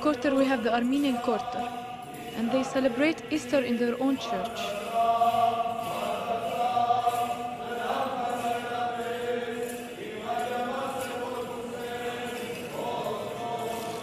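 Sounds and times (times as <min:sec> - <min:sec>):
voices chanting long notes: 0:00.0 - 0:14.0.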